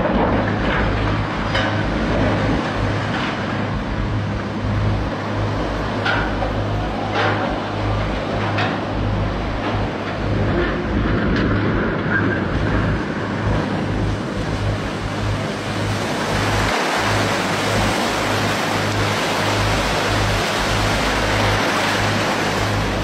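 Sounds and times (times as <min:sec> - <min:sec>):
water surging over riverbank: 0:00.0 - 0:23.0.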